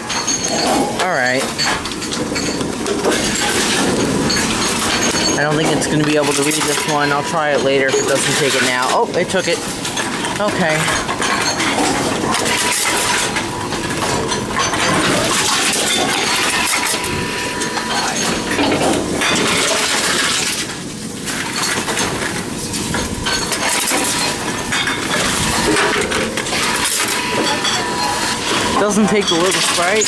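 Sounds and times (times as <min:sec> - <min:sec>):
vending machine crushing bottles: 0:00.0 - 0:30.0.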